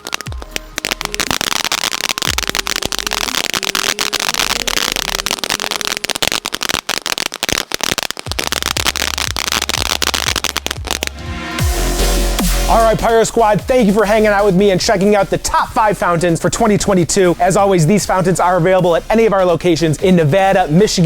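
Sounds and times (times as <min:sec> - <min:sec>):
music with bass beat: 0:00.0 - 0:06.8, 0:08.2 - 0:21.0
firework crackling: 0:00.0 - 0:21.0.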